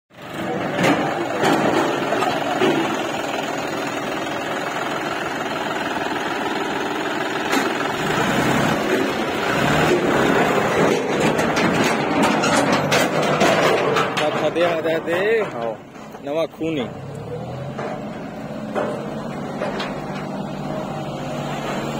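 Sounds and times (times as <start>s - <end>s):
tractor diesel engine running: 0.1s - 21.9s.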